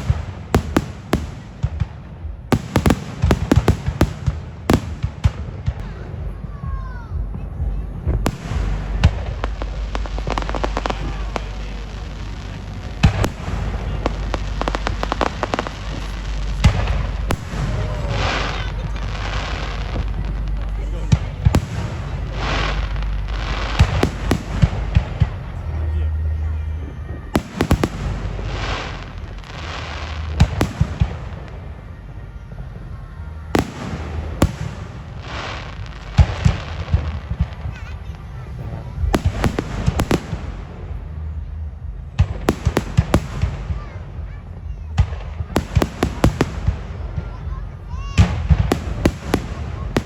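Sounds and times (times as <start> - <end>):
fireworks bangs: 0.0 - 32.2, 33.2 - 50.0
fireworks crackling: 0.0 - 50.0
low rumble: 0.0 - 50.0.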